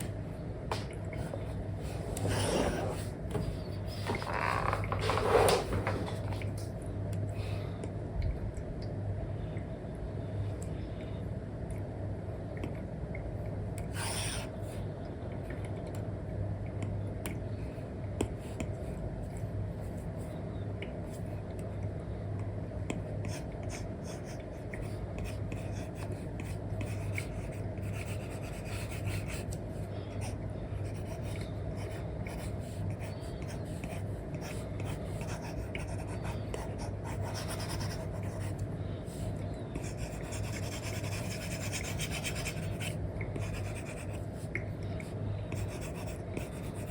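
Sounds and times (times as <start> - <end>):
low background hum: 0.0 - 46.9.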